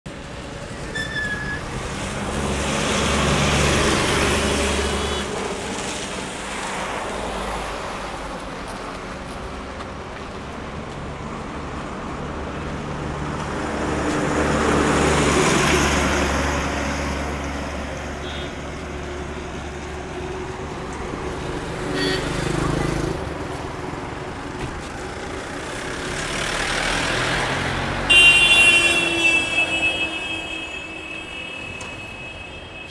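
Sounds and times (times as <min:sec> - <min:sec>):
vehicles passing: 0:00.1 - 0:32.9.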